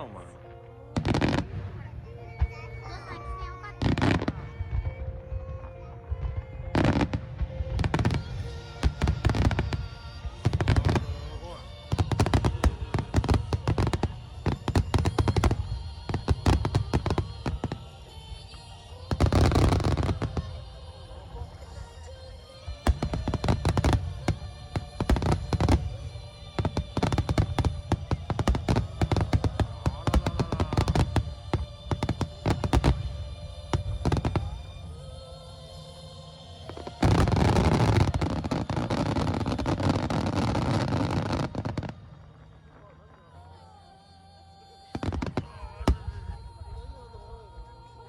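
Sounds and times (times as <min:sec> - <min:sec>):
fireworks bangs and crackles: 0:00.0 - 0:43.5, 0:44.8 - 0:48.0
background music: 0:00.0 - 0:48.0.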